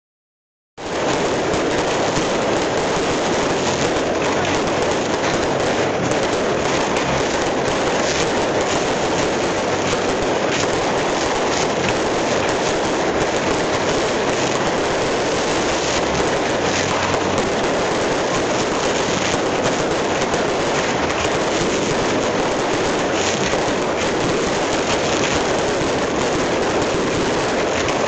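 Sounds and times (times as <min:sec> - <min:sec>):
firecrackers crackling: 0:00.8 - 0:28.0.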